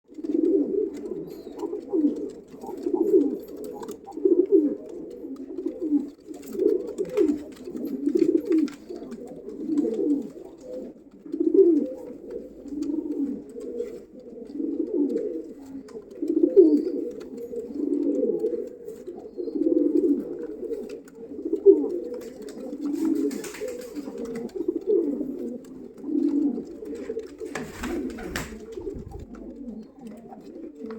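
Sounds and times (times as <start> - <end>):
pigeons cooing: 0.1 - 30.9.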